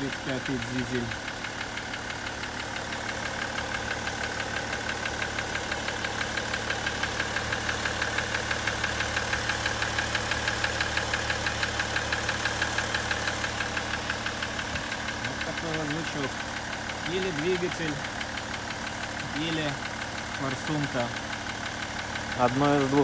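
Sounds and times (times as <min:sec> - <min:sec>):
diesel engine idling: 0:00.0 - 0:23.0
rapid engine knock: 0:00.0 - 0:23.0.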